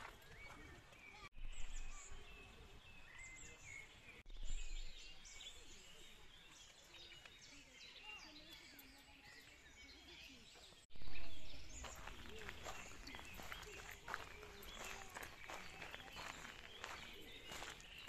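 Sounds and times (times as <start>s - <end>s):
birds singing and chirping: 0.0s - 18.0s.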